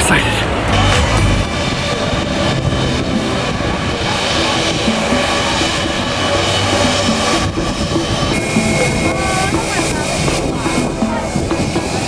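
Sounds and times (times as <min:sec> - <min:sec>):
jet blast buffeting microphone: 0:00.0 - 0:12.0
jet engines at takeoff power: 0:00.0 - 0:12.0.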